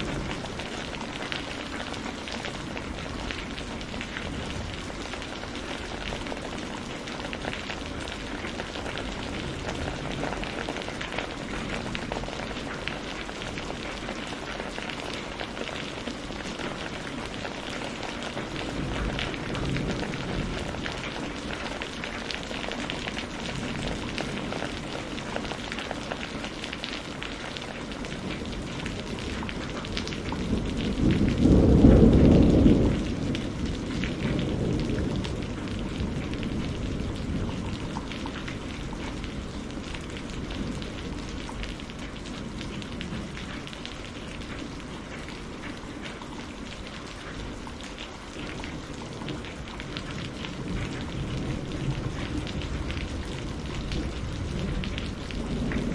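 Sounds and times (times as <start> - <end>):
thunder rumbling: 0.0 - 45.7, 46.5 - 55.9
steady rain falling: 0.0 - 55.9.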